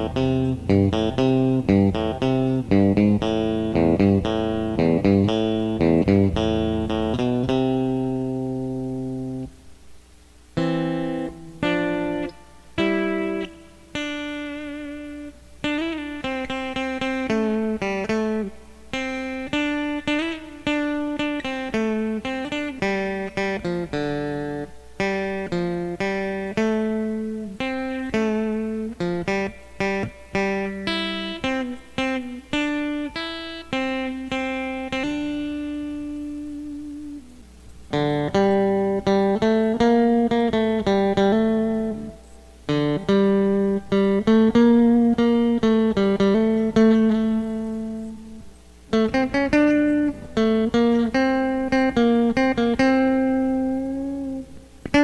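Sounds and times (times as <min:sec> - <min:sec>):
clean electric guitar melody: 0:00.0 - 0:09.7, 0:10.5 - 0:55.0.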